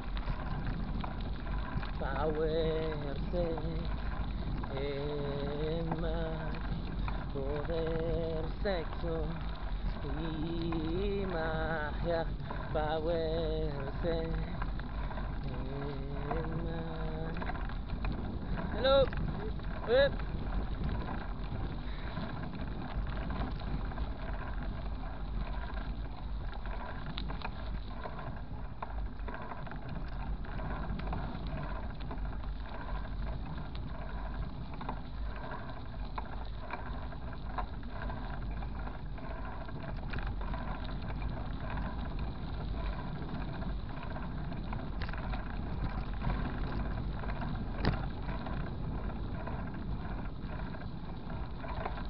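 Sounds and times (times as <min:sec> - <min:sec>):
faint clicks: 0:00.0 - 0:52.0
wind buffeting microphone: 0:00.0 - 0:52.0.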